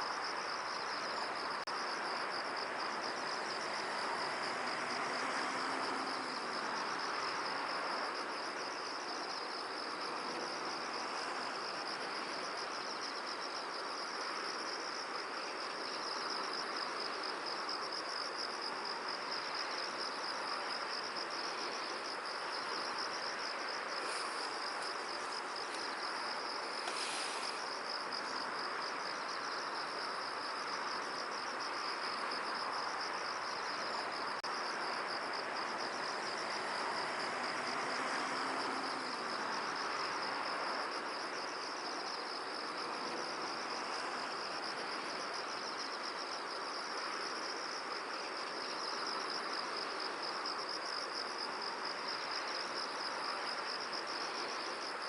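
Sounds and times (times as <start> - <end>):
insects trilling: 0.0 - 55.0
soft rushing hiss: 0.0 - 55.0.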